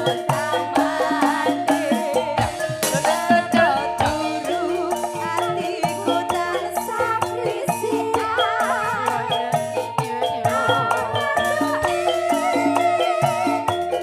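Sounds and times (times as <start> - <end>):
live band music: 0.0 - 14.0
rattling percussion: 0.0 - 14.0.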